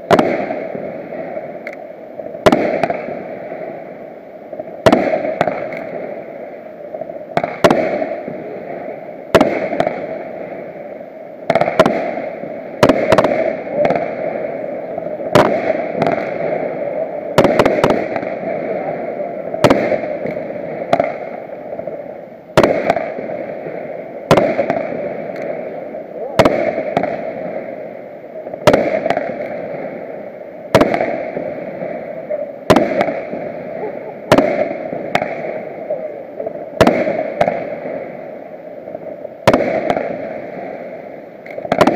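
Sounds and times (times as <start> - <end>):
fireworks bursting with bangs: 0.0 - 41.9
steady background noise: 0.0 - 41.9.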